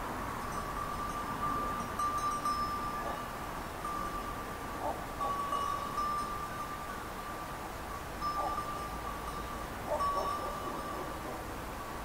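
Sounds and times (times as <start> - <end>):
sheep bells ringing: 0.4 - 12.0.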